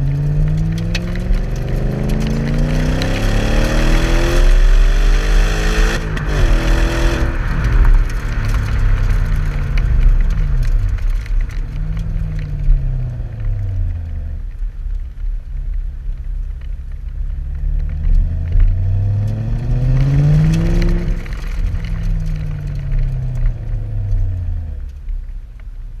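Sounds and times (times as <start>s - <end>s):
car engine revving: 0.0s - 14.6s, 17.4s - 24.9s.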